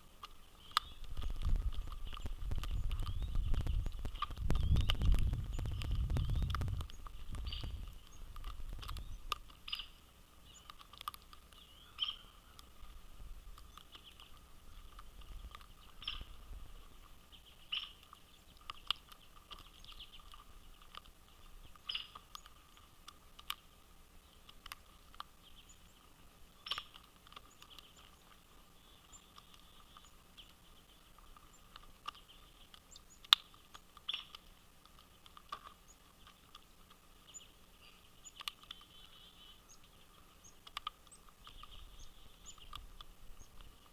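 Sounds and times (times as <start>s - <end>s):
birds pecking at a feeder: 0.0s - 43.9s
faint bird chirps: 0.4s - 12.9s, 13.6s - 22.9s, 25.4s - 34.4s, 37.2s - 43.9s.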